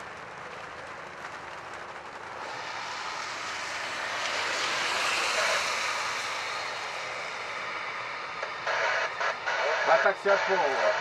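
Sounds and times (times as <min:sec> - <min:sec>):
aircraft rolling on wet runway: 0:00.0 - 0:11.0
jet engines rushing: 0:00.0 - 0:11.0.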